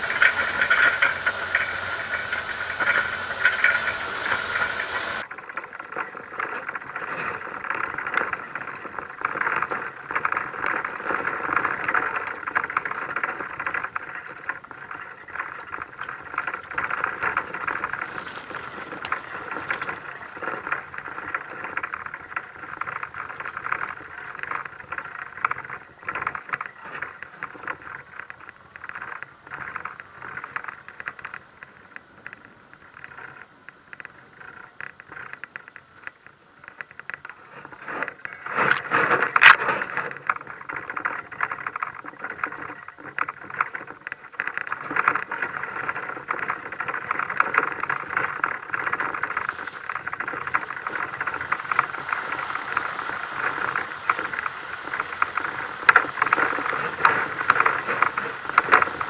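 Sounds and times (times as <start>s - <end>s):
tyres rattling on loose ground: 0.0s - 31.6s, 37.0s - 59.0s.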